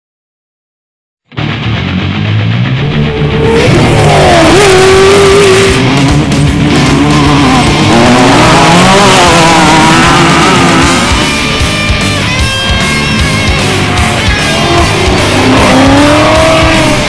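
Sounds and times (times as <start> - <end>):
rock music: 1.3 - 17.0
race vehicle engine revving: 2.1 - 17.0.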